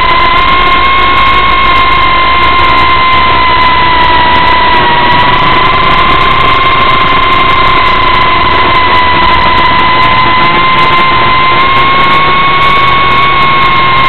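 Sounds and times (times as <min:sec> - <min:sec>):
quadcopter motors whining: 0:00.0 - 0:14.0
rushing noise: 0:00.0 - 0:14.0.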